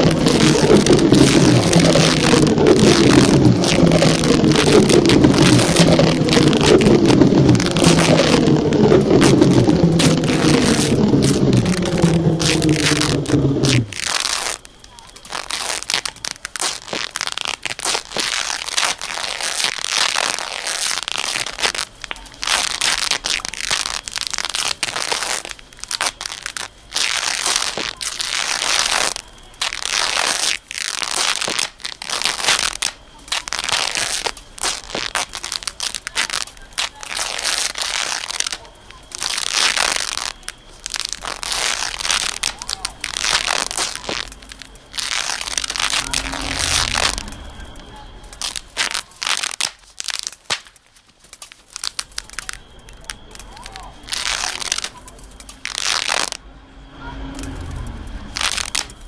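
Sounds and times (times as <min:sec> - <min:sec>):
dense crackling crumpling noise: 0:00.0 - 0:59.0.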